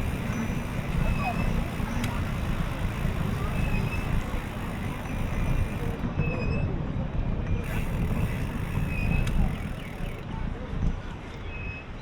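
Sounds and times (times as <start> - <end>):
wind buffeting microphone: 0.0 - 11.3
road noise: 0.0 - 11.5.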